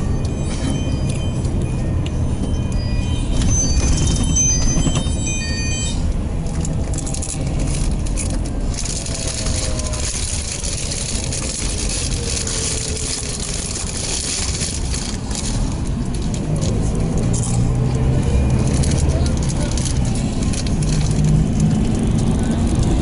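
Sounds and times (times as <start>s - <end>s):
bus body rattling: 0.0s - 23.0s
bus engine and road rumble: 0.0s - 23.0s.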